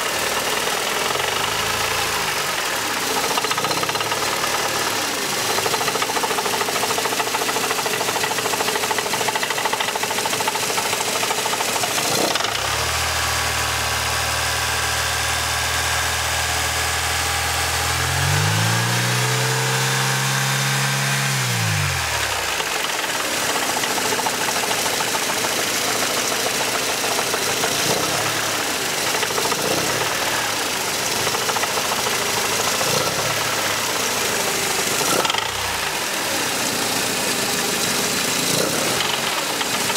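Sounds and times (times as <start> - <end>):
engine running with rattling knock: 0.0 - 13.9, 17.8 - 39.9.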